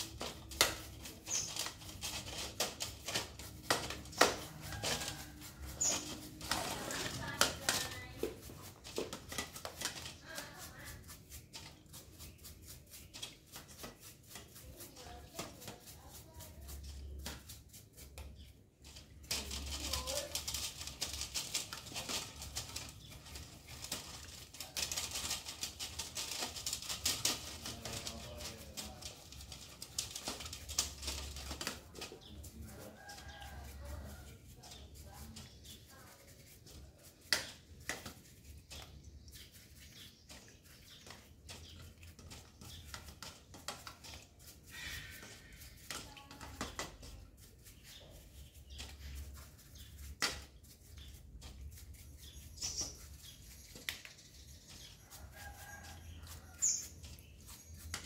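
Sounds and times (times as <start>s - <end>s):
quick rubbing or brushing: 0.0s - 58.0s.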